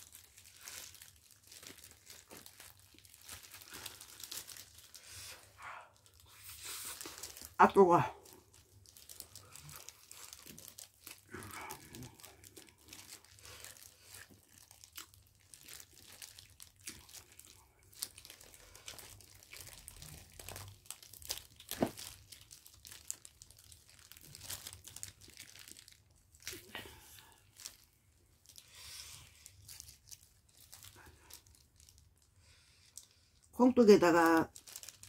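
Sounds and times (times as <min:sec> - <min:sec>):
plastic gloves crinkling: 0:00.0 - 0:35.0.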